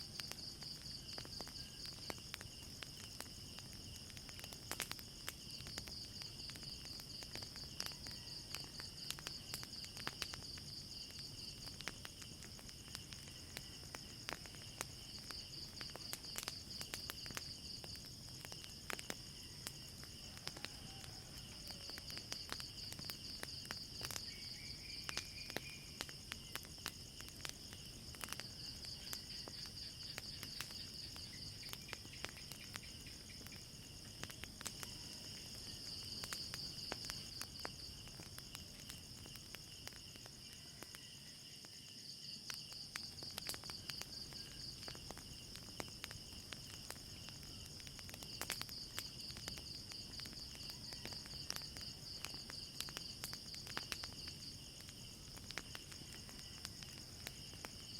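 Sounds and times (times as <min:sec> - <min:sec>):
crickets chirping: 0:00.0 - 0:57.9
wood fire crackling: 0:00.0 - 0:57.9.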